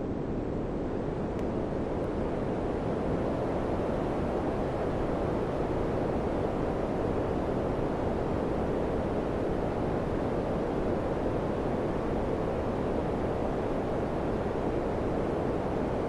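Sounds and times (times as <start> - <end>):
air conditioner fan blowing: 0.0 - 16.0.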